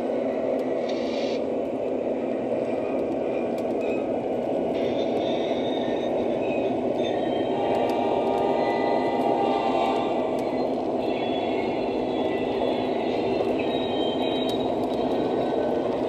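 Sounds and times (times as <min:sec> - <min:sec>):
toy train wheels rumbling: 0:02.5 - 0:16.0.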